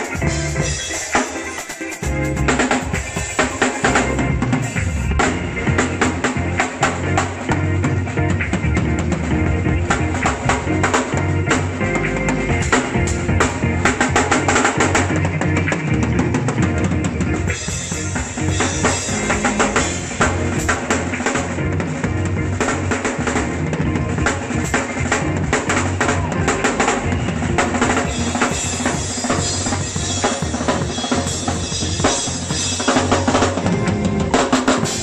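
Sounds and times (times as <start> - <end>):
bass drum: 0.0 - 0.8, 2.0 - 35.0.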